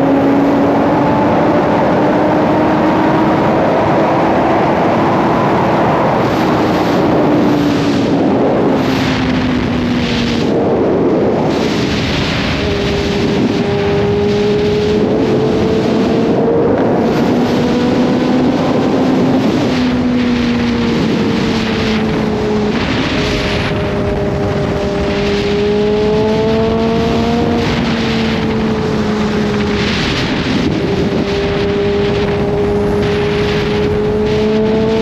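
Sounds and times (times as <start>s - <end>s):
motorcycle engine running: 0.0s - 35.0s
wind noise: 0.0s - 35.0s.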